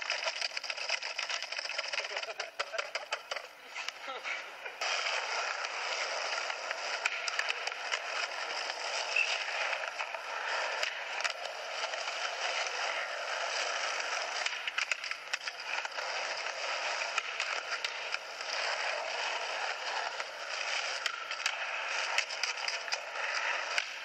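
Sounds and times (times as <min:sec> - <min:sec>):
skateboard clacks: 0:00.0 - 0:24.0
skateboard wheels rolling on concrete: 0:00.0 - 0:24.0.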